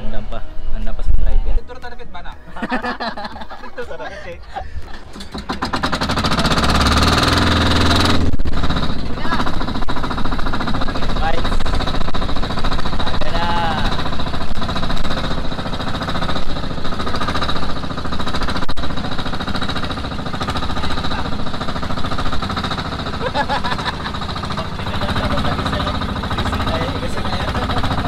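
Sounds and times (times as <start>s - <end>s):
boat engine chugging: 2.5s - 28.0s.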